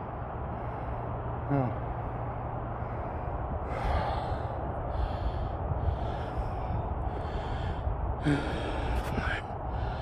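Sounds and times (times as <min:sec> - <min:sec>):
steady low rumble: 0:00.0 - 0:10.0
man breathing hard: 0:00.3 - 0:10.0.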